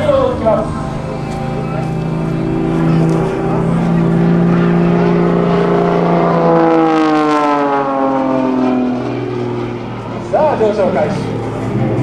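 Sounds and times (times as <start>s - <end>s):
propeller plane engine droning overhead: 0.0s - 12.0s.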